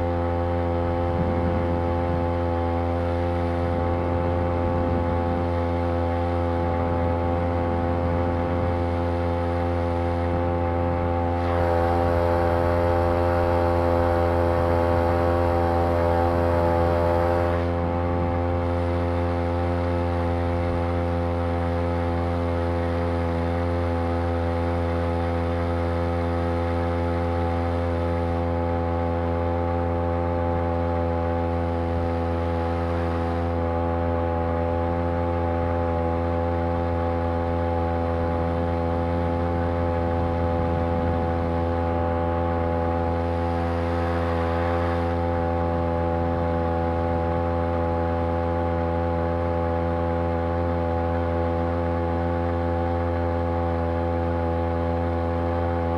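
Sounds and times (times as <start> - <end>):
two-stroke outboard motor running: 0.0 - 55.9.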